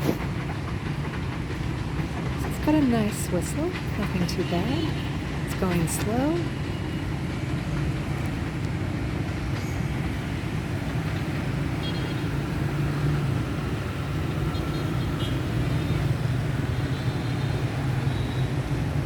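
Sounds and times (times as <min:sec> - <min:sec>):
train rolling past: 0:00.0 - 0:19.0.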